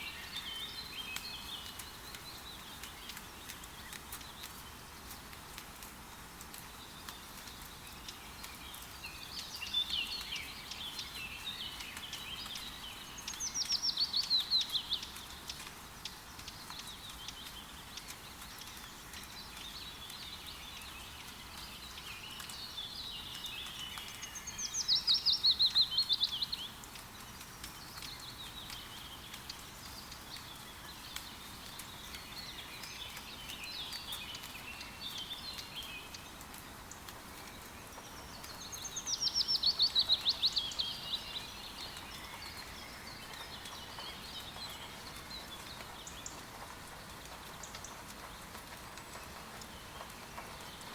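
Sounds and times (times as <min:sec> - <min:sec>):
forest birds singing: 0:00.0 - 0:50.9
rain hiss and pattering: 0:00.0 - 0:50.9.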